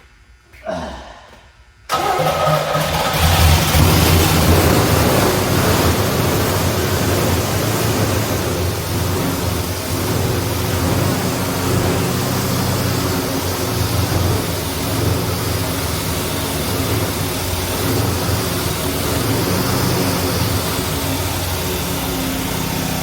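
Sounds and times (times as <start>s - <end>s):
car engine running: 1.9s - 23.0s.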